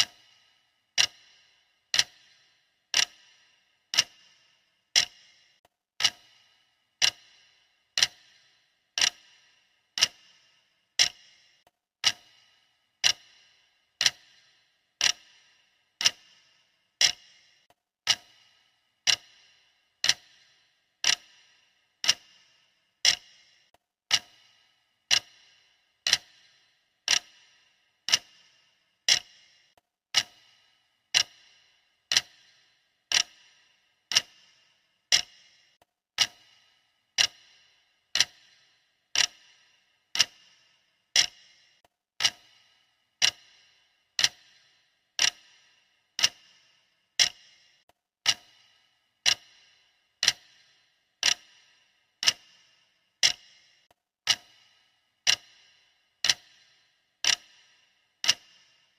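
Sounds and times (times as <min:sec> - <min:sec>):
clock ticking: 0:00.0 - 0:58.9.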